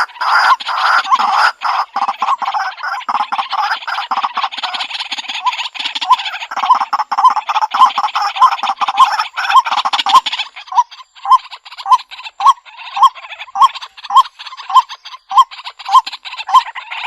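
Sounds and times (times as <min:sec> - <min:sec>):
bird harsh rapid croaking: 0:00.0 - 0:17.0.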